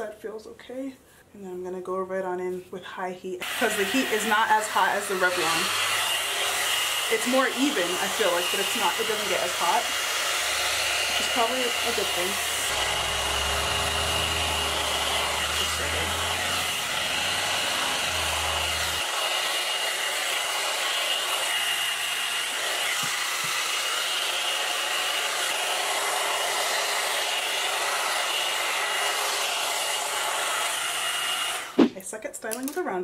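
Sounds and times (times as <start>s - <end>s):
hair dryer brush running: 3.4s - 32.0s.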